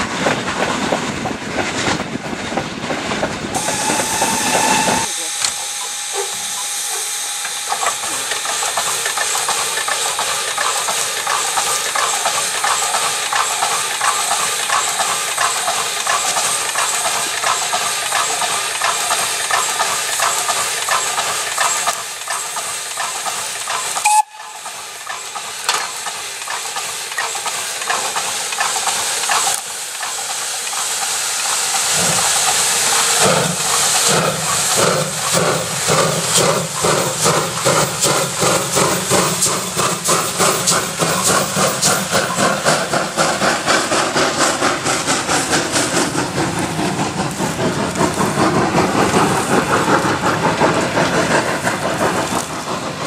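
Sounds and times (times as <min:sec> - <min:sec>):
steam locomotive exhaust beats: 0:00.0 - 0:53.0
hiss of escaping steam: 0:03.0 - 0:53.0.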